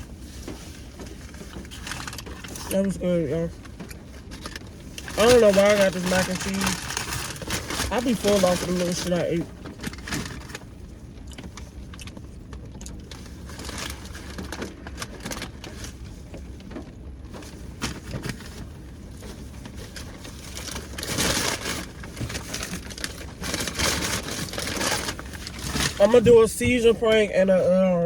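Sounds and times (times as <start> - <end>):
food container crinkling: 0.5 - 3.0, 3.6 - 16.0, 17.3 - 26.9.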